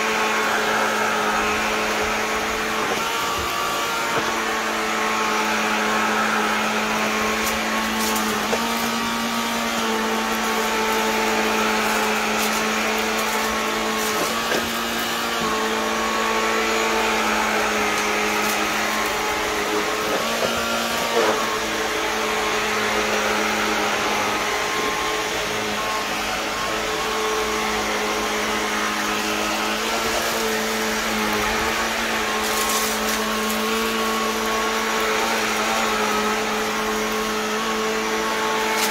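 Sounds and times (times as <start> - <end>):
vacuum cleaner motor hum: 0.0 - 38.9.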